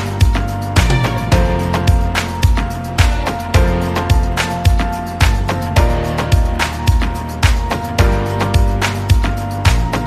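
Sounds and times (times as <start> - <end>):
background music with low beat: 0.0 - 10.0.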